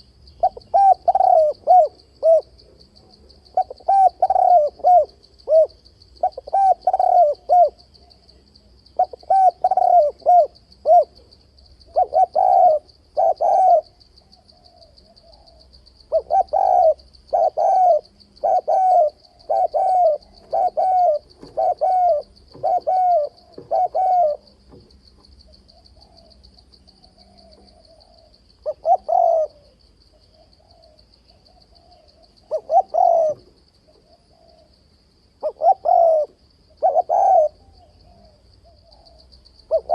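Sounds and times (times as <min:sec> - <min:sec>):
dove cooing: 0:00.0 - 0:08.4, 0:09.0 - 0:34.8, 0:35.4 - 0:39.9.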